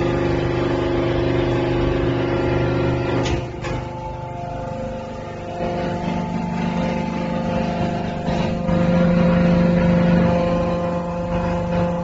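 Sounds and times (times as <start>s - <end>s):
hydraulic motor and pump hum: 0.0s - 12.0s.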